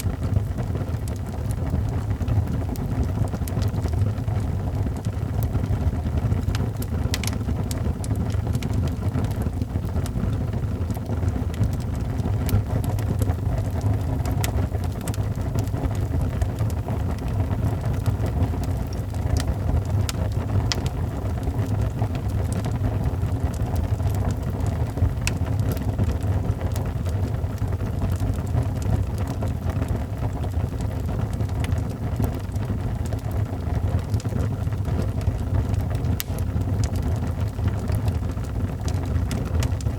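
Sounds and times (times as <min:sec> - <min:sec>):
fire crackles and pops: 0:00.0 - 0:39.9
wood fire burning: 0:00.0 - 0:39.9.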